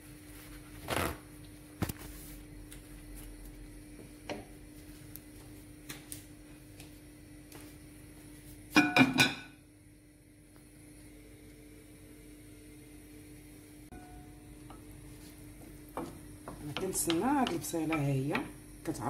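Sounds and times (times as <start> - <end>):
faint steady hum: 1.3 - 19.0.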